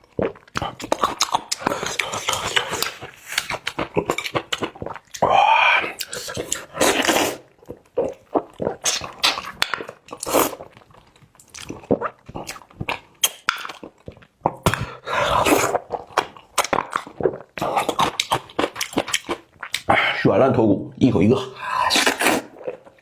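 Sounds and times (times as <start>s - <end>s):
person chewing and smacking: 0.0s - 20.0s.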